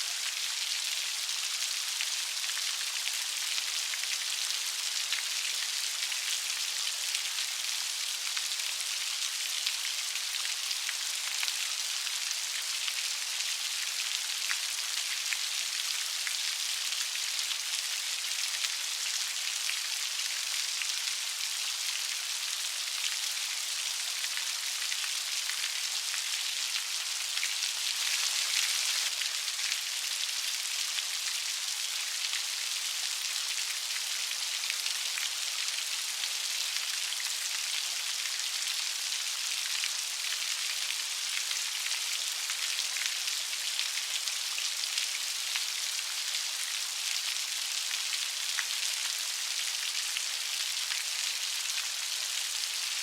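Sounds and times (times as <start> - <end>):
light rain patter: 0.0 - 53.0.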